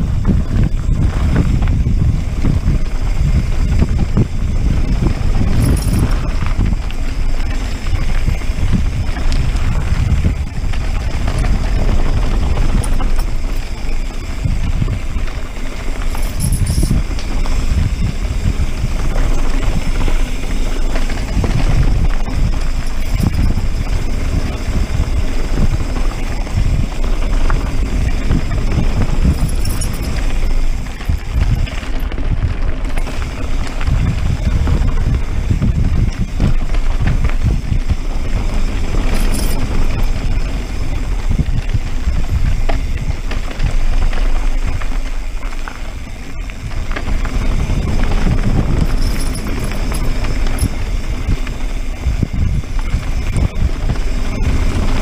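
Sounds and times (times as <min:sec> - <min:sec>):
bike rattling over bumps: 0:00.0 - 0:55.0
wind buffeting microphone: 0:00.0 - 0:55.0
tyres crunching over rocks: 0:03.4 - 0:55.0.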